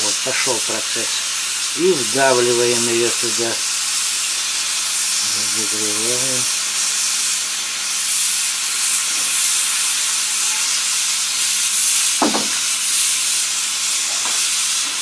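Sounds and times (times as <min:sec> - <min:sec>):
hot-air welding gun hissing: 0:00.0 - 0:15.0.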